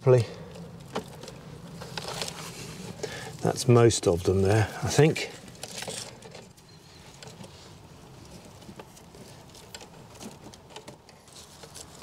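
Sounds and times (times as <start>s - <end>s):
cables rustling: 0.5s - 3.5s, 5.3s - 12.0s.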